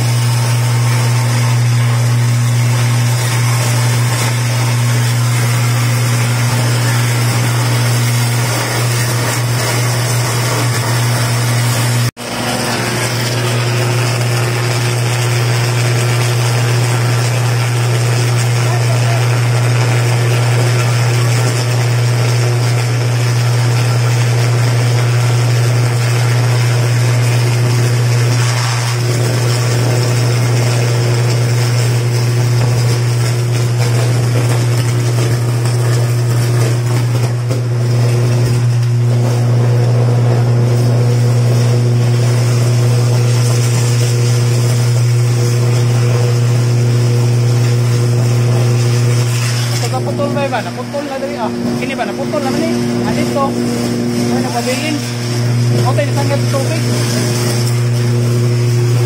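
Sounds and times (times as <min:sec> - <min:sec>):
power line arcing buzz: 0:00.0 - 0:59.0.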